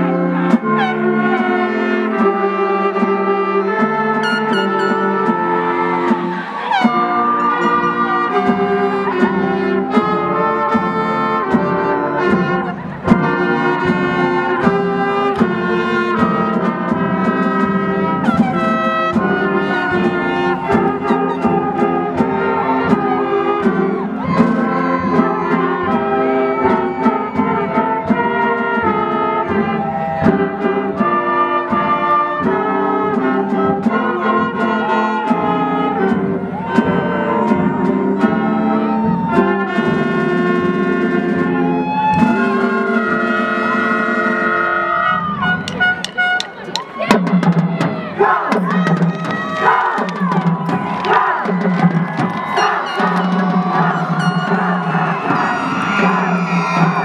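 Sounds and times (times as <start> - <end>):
brass band playing chords: 0.0 - 57.0.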